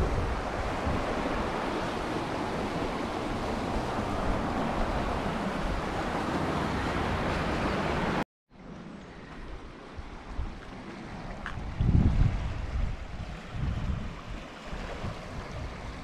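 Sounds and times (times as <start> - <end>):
river rushing roar: 0.0 - 16.0.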